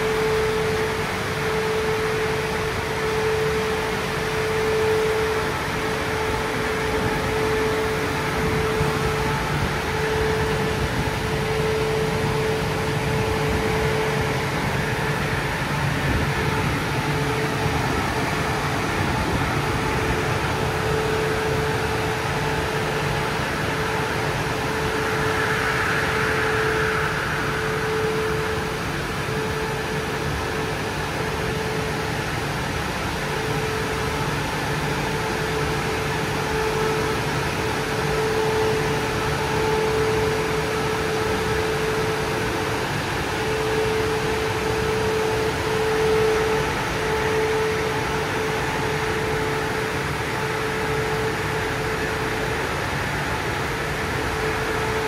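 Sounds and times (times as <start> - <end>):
car wash dryer blowers: 0.0 - 55.0
wavering whine: 0.0 - 55.0.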